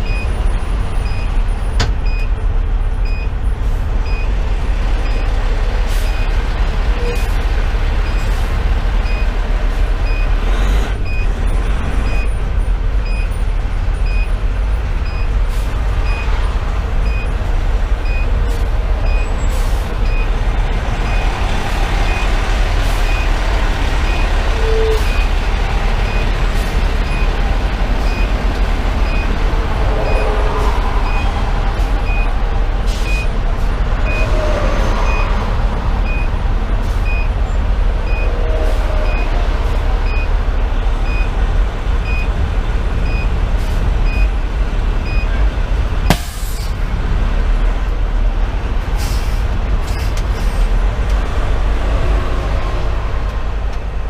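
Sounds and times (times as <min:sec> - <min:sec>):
diesel engine low rumble: 0:00.0 - 0:54.0.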